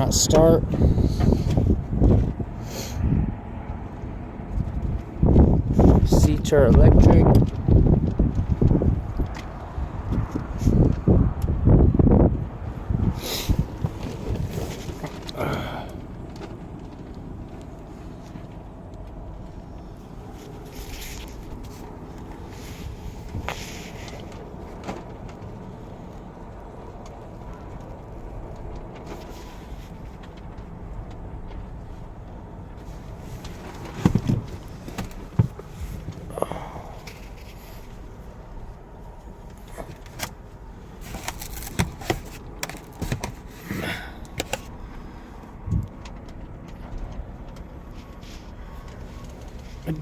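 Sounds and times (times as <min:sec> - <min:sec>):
steady background noise: 0:00.0 - 0:50.0.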